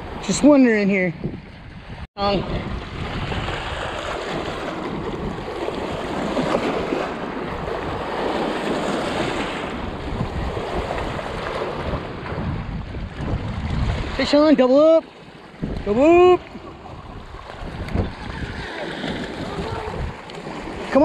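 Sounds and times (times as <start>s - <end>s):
wind buffeting microphone: 0.0s - 14.6s, 15.2s - 21.0s
river water lapping against rocks: 2.7s - 21.0s.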